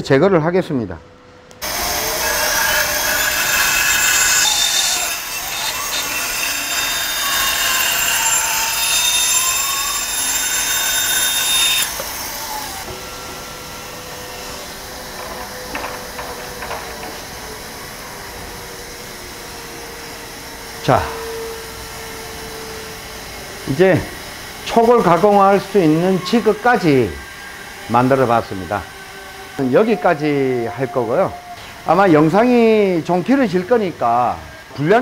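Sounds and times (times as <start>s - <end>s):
band saw cutting wood: 1.6s - 35.0s.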